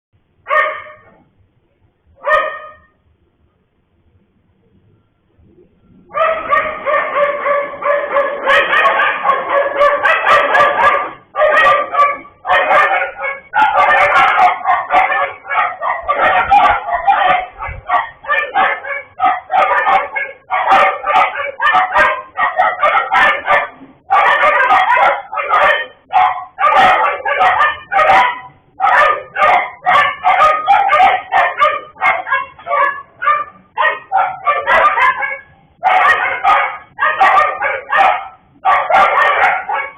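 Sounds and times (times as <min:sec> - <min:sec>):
dogs howling and yelping: 0:06.1 - 0:39.9.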